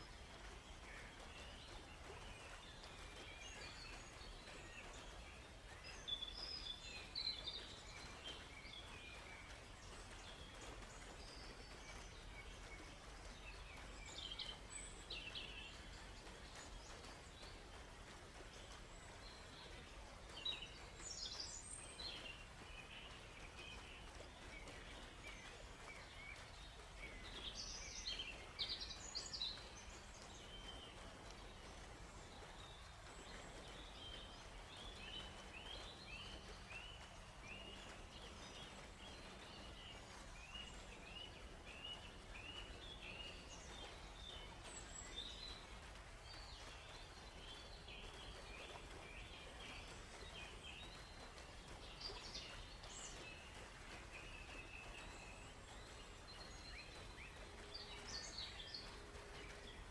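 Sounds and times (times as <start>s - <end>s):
faint background hiss: 0.0s - 59.9s
songbirds chirping: 0.0s - 59.9s.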